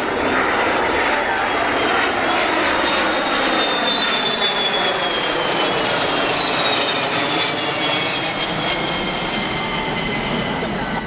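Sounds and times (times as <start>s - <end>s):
jet engine whine: 0.0s - 11.0s.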